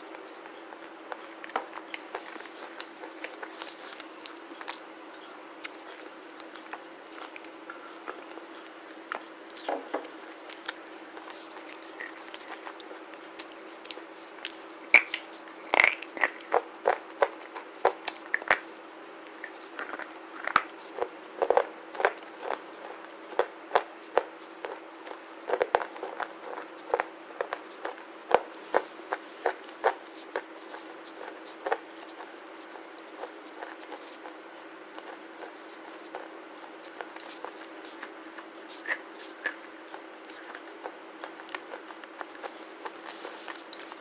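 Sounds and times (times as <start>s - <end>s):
crunchy chewing: 0.0s - 44.0s.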